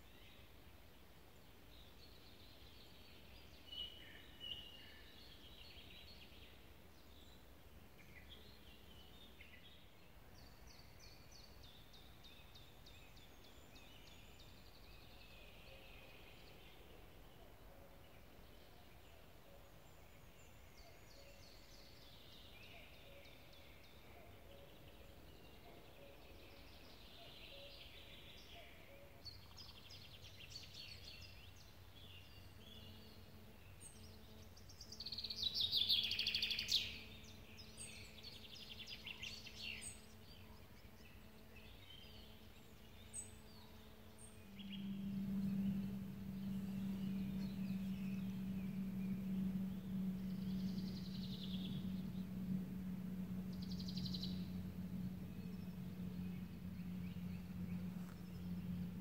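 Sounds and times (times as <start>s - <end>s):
songbirds singing: 0.0s - 59.0s
steady low hum: 0.0s - 59.0s
bird trilling song: 1.8s - 59.0s.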